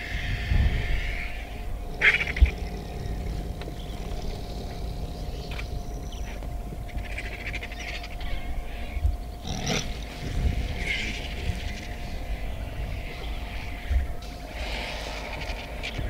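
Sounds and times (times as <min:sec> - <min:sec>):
steady low hum: 0:00.0 - 0:16.0
vultures hissing and calling: 0:00.0 - 0:16.0.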